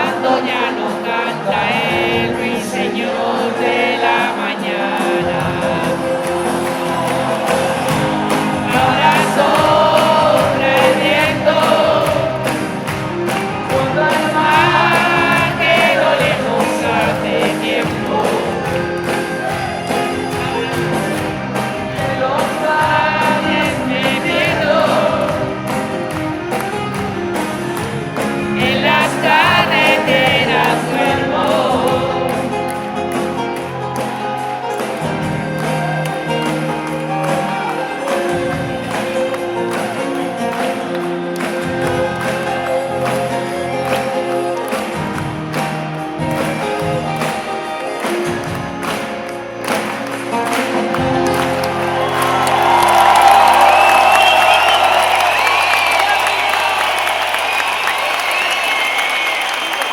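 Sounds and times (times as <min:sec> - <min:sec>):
crowd singing along: 0:00.0 - 0:58.5
live band music: 0:00.0 - 0:59.9.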